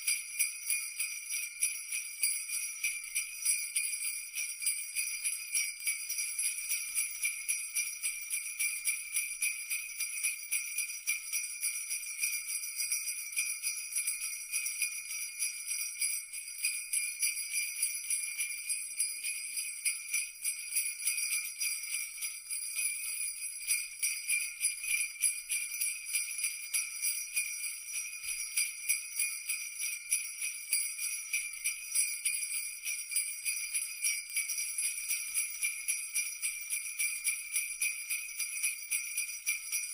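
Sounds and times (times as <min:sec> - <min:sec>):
sleigh bells jingling: 0:00.0 - 0:39.9.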